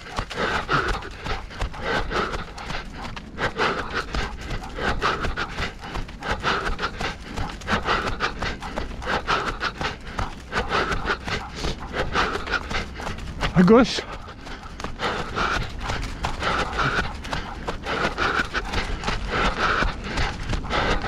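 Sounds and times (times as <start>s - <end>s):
runner breathing hard: 0.0s - 21.0s
running footsteps: 0.0s - 21.0s.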